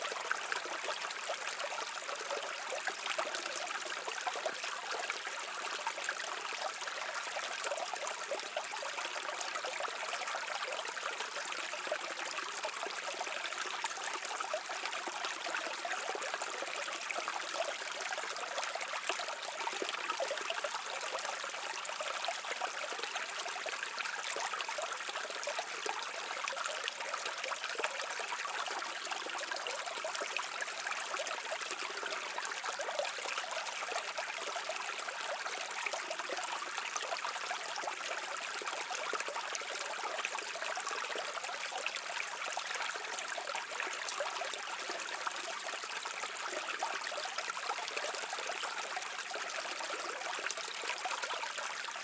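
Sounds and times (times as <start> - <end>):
brook flowing over stones: 0.0 - 52.0.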